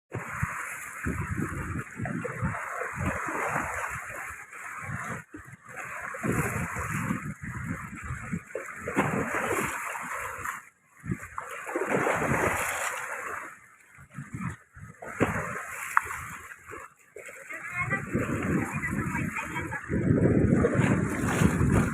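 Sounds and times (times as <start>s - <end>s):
sea waves washing onto shore: 0.1s - 21.9s.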